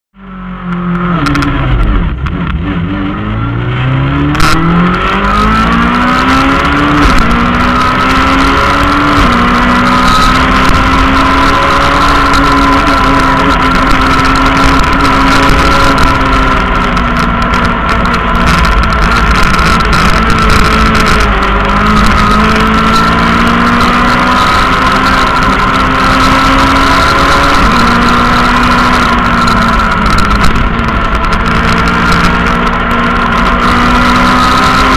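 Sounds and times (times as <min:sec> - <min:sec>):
rally car engine accelerating: 0:00.2 - 0:34.9
steady high whine: 0:00.2 - 0:34.9.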